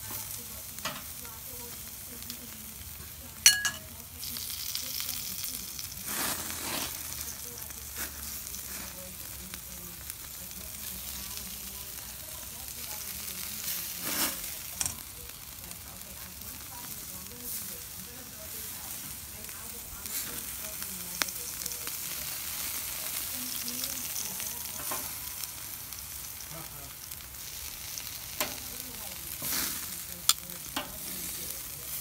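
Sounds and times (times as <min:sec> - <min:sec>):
food sizzling on a grill: 0:00.0 - 0:32.0.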